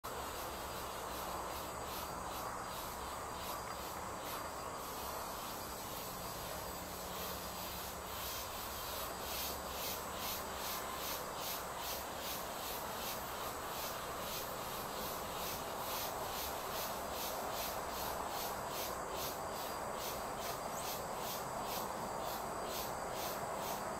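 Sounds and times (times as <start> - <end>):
background hiss: 0.0 - 23.9
insect chirping: 0.0 - 23.9.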